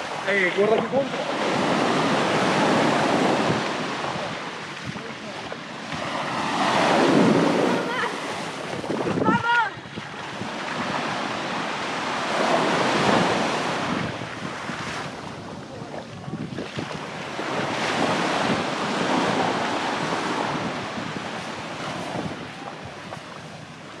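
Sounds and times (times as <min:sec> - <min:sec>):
sea waves breaking: 0:00.0 - 0:24.0
wind on microphone: 0:00.0 - 0:24.0.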